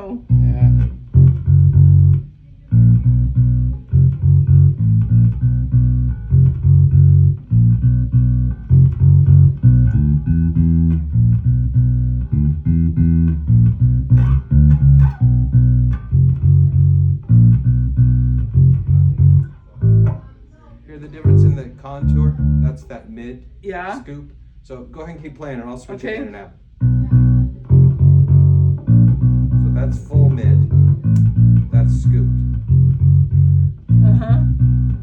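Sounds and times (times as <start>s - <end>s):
electric bass plucked notes: 0.0s - 20.3s, 21.2s - 23.0s, 26.7s - 35.0s.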